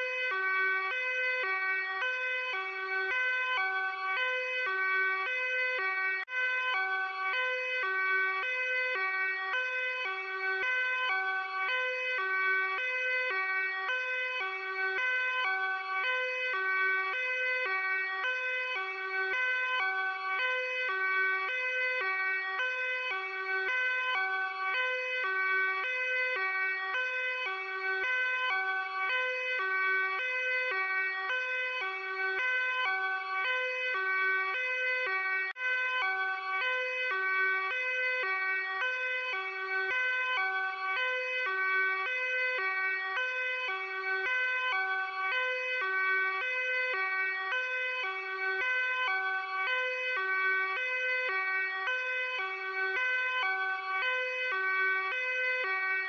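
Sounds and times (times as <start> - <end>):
police car two-tone siren: 0.0 - 56.0.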